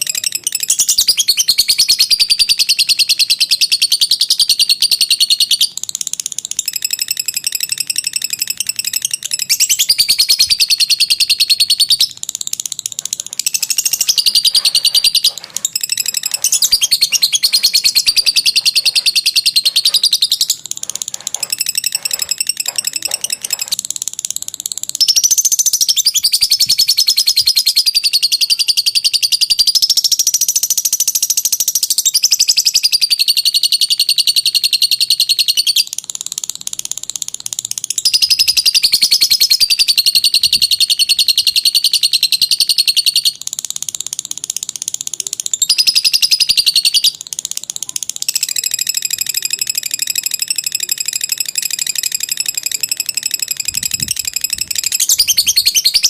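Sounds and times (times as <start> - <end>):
lovebird rattling trills: 0.0 - 56.0.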